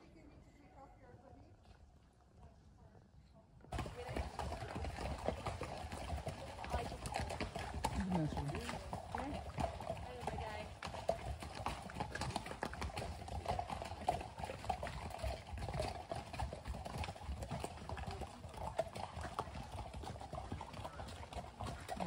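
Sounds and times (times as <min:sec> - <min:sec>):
horse hooves clopping on wet gravel: 0:03.7 - 0:22.0.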